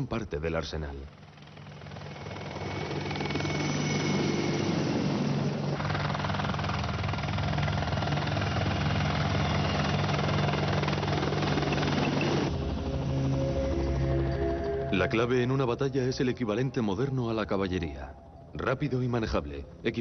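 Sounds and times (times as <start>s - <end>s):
helicopter rotor and turbine: 0.7s - 17.6s.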